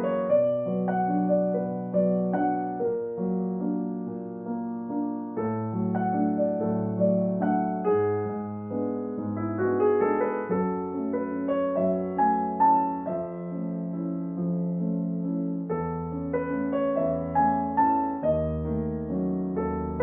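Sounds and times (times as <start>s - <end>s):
gentle piano melody: 0.0s - 20.0s.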